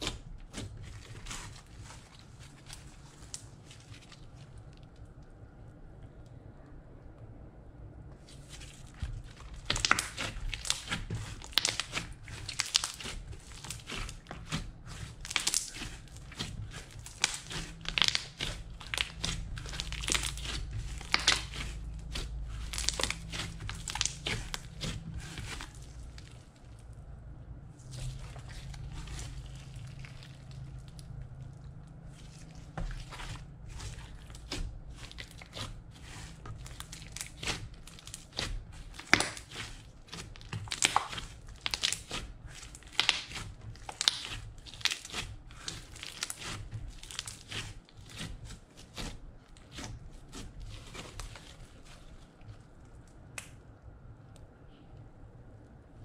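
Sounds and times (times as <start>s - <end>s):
slime crackling and popping: 0.0s - 5.3s, 8.3s - 27.0s, 27.7s - 53.8s.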